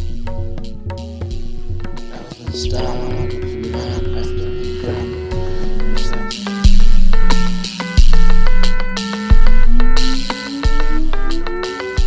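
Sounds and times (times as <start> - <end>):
synth chords: 0.0 - 11.7.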